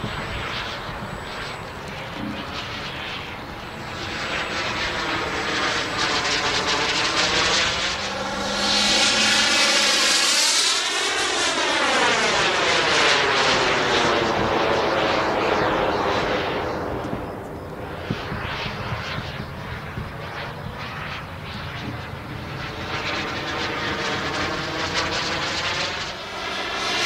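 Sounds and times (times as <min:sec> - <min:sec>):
jet engine passing by: 0:00.0 - 0:27.0.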